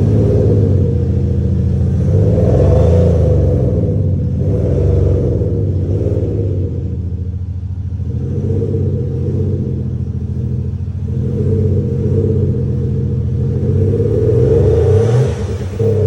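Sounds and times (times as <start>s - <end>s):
deep rumbling engine note: 0.0s - 16.0s.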